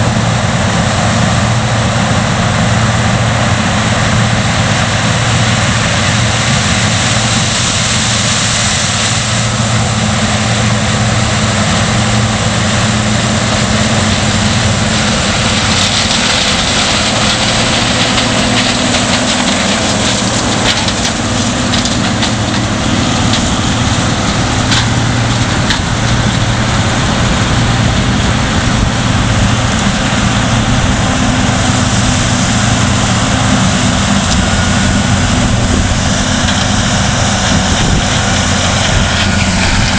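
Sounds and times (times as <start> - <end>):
combine harvester engine drone: 0.0 - 39.9
hiss of crop and machine: 0.1 - 39.9.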